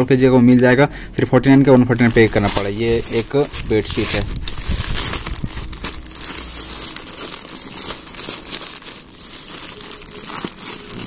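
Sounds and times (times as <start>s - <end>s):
plastic bag crinkling: 1.5s - 11.0s.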